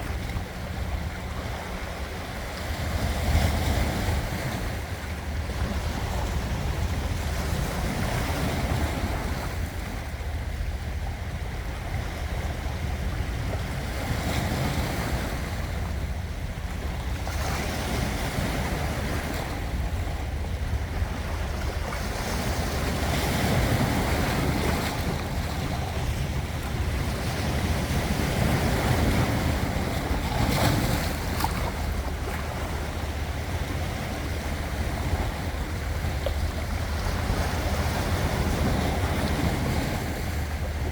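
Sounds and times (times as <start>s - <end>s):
ocean waves breaking on shore: 0.0s - 40.9s
wind rumble on microphone: 0.0s - 40.9s.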